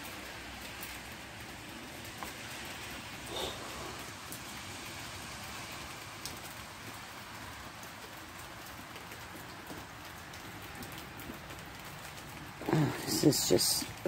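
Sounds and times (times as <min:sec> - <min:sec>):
steady rain falling: 0:00.0 - 0:14.0
water dripping: 0:00.0 - 0:14.0.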